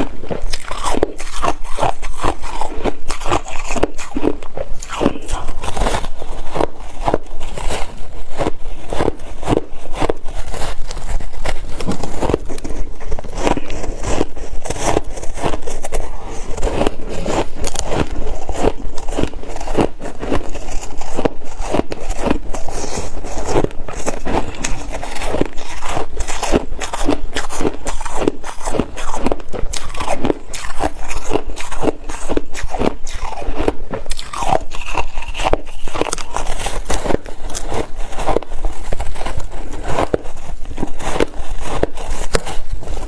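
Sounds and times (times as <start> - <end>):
ice being chewed: 0.0 - 43.0.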